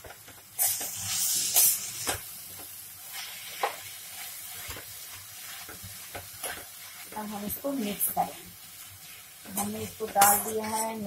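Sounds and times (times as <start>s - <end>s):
frying hiss: 0.0s - 11.0s
low sizzle: 0.0s - 11.0s.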